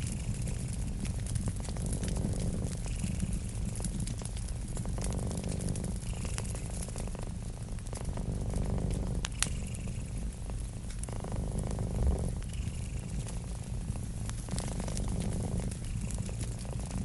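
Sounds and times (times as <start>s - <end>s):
cat purring: 0.0s - 17.0s
crackling wood fire: 0.0s - 17.0s.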